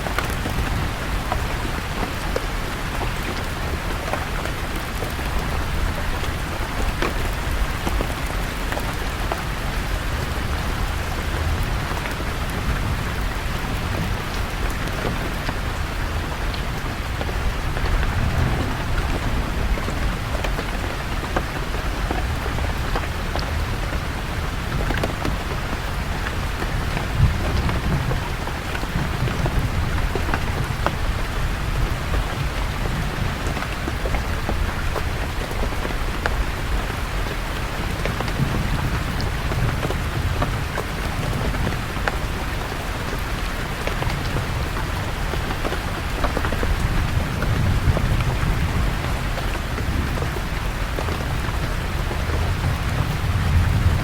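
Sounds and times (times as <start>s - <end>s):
distant thunder rumbles: 0.0s - 36.8s, 46.0s - 54.0s
rain falling on leaves: 0.0s - 54.0s.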